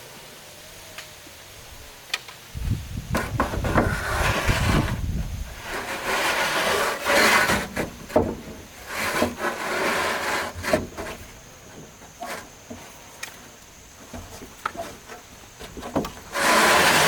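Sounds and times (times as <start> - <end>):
wood scraping by hand: 3.0 - 17.0.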